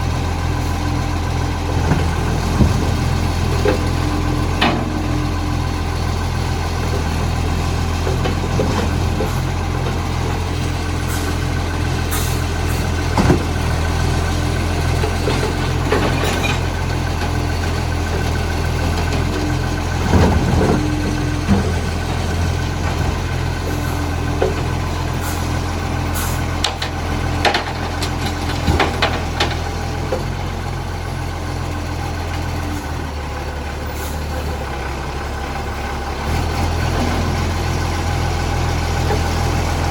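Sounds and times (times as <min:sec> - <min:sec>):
garbage truck engine idling: 0:00.0 - 0:39.9.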